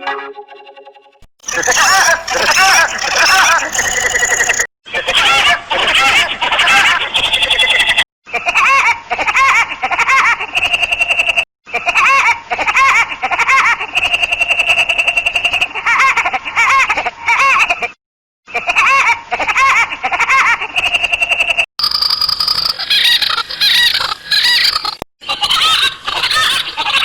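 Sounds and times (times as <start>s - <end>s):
high-pitched cartoon laugh: 1.4s - 17.9s, 18.5s - 21.6s, 22.7s - 27.0s.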